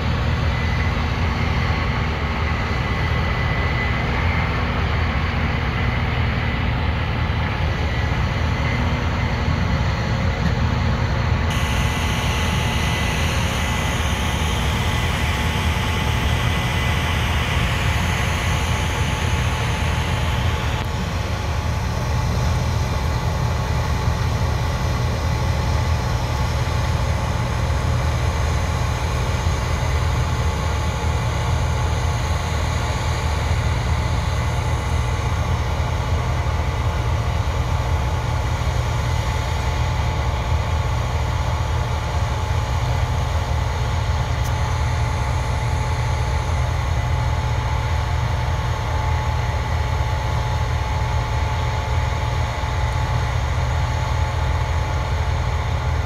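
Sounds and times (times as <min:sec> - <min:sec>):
low diesel rumble: 0:00.0 - 0:56.0
machinery whine: 0:00.0 - 0:56.0.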